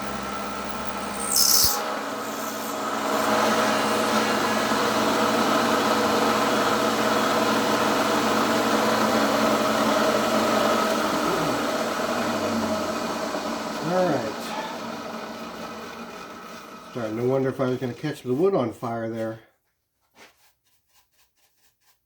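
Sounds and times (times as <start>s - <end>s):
machine tool motor running: 0.0s - 18.0s.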